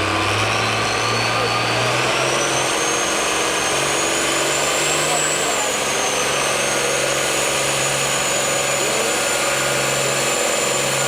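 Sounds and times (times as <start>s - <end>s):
high whine: 0.0s - 11.0s
tractor engine running: 0.0s - 11.0s.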